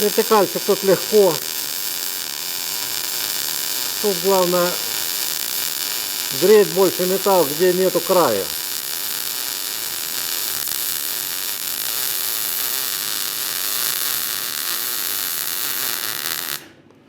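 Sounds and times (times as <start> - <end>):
welding arc hissing: 0.0 - 16.8.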